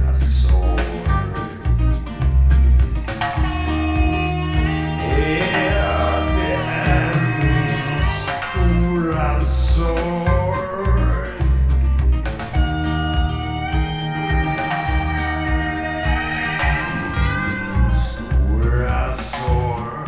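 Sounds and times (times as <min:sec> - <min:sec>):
guitar music with heavy bass: 0:00.0 - 0:20.0.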